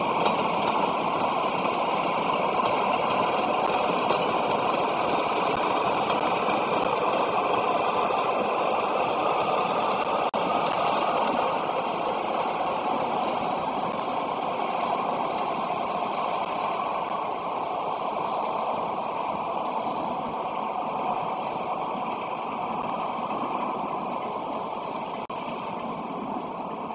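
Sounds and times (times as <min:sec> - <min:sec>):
diesel locomotive engine rumbling: 0:00.0 - 0:26.9.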